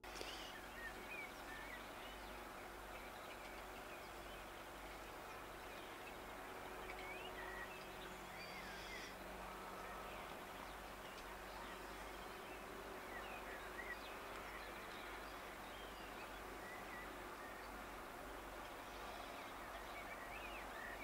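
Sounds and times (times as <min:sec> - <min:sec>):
background hiss: 0:00.0 - 0:21.0
small birds chirping: 0:00.1 - 0:21.0.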